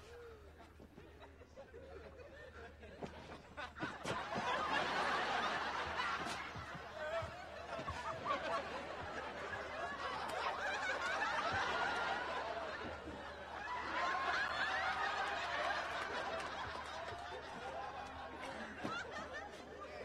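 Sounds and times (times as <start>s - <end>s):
studio audience laughing: 0.9s - 20.0s.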